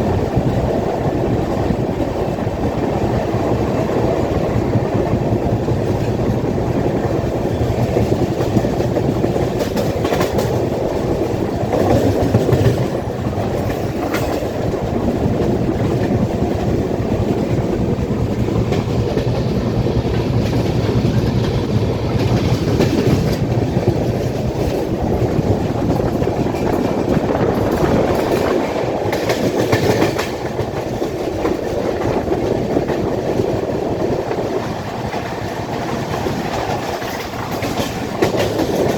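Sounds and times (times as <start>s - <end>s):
train wheels clacking on rails: 0.0s - 38.9s.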